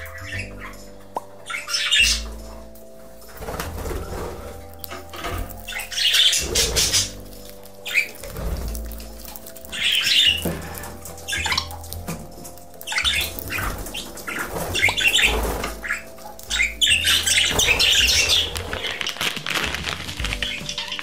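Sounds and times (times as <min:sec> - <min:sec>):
budgerigars squawking and chattering: 0:00.0 - 0:02.8, 0:03.4 - 0:19.3, 0:20.2 - 0:21.0.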